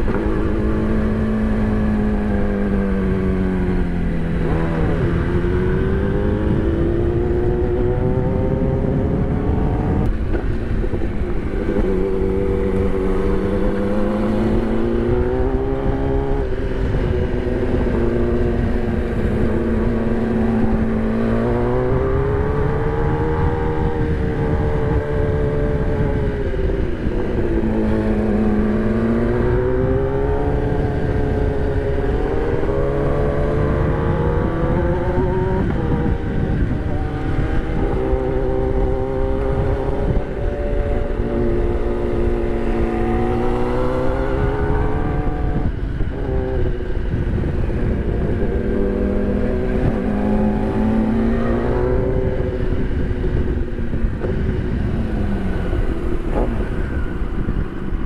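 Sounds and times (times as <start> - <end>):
motorcycle engine revving: 0.0 - 58.0
wind rushing over microphone: 0.0 - 58.0.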